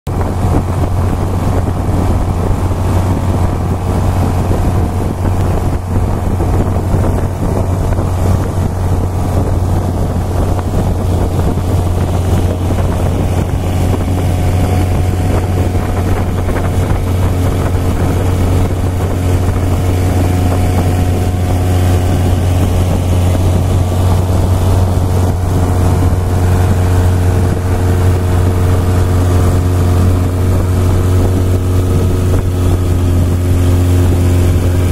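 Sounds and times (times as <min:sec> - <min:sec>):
boat engine droning: 0:00.1 - 0:34.9
water rushing along hull: 0:00.1 - 0:34.9.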